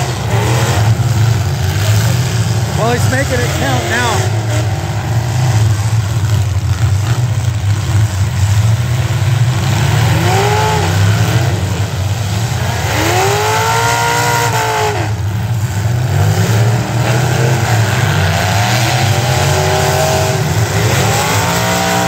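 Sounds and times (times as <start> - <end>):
engine revving: 0.0 - 22.0
engines rumbling: 0.0 - 22.0.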